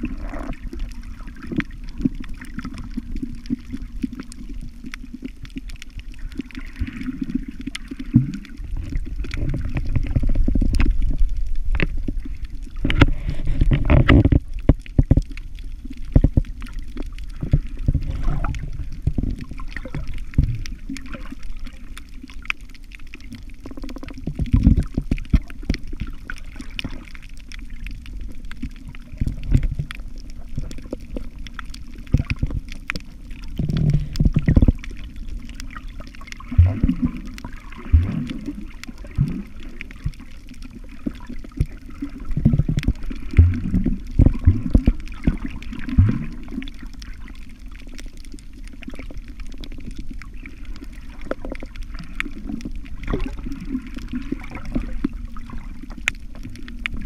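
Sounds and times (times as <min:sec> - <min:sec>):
muffled underwater water rumble: 0:00.0 - 0:57.0
underwater clicks and crackles: 0:00.0 - 0:57.0.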